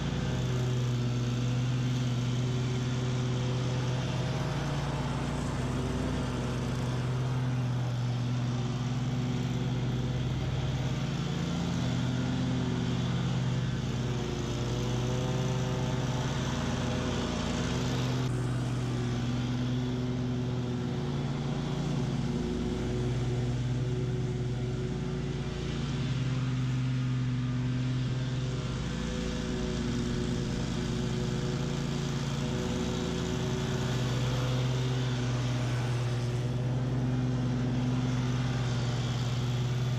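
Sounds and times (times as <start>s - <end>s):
mower engine cutting weeds: 0.0s - 39.9s.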